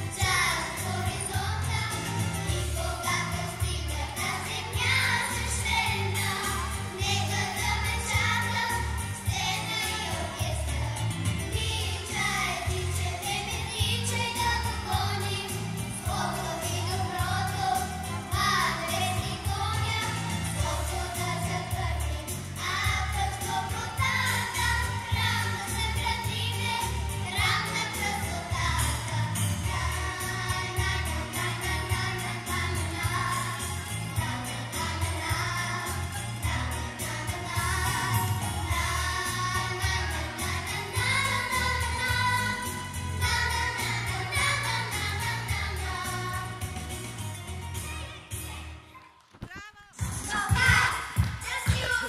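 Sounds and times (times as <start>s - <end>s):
girls singing together: 0.0s - 46.7s, 50.1s - 52.0s.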